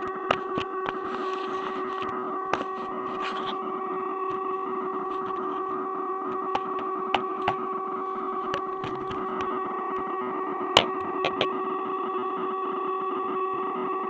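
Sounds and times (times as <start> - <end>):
electronic droning tones: 0.0 - 14.0.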